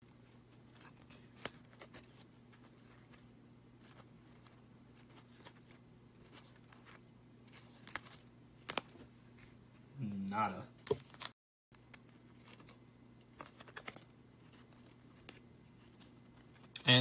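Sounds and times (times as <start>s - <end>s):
cards clicking and rustling: 0.5s - 9.8s, 10.8s - 16.9s.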